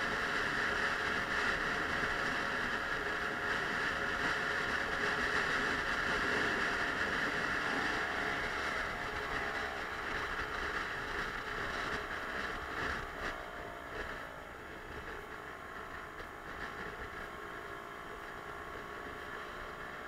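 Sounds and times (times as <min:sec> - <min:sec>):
scooter engine drone: 0:00.0 - 0:20.0
wind and road noise: 0:00.0 - 0:20.0.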